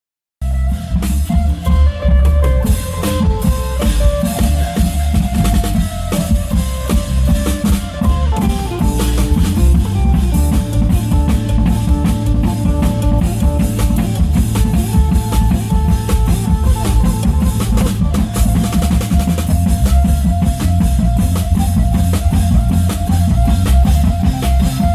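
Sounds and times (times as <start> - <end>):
lute melody line: 0.4 - 24.9
long-drum ensemble dance beat: 2.7 - 24.9.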